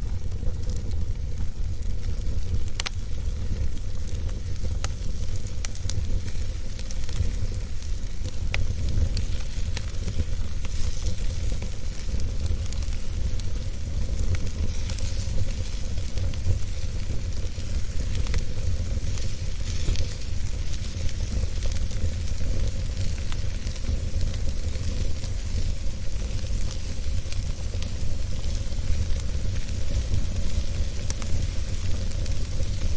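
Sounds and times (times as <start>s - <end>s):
fire crackling and popping: 0.0s - 32.9s
fire hissing and rumbling: 0.0s - 32.9s.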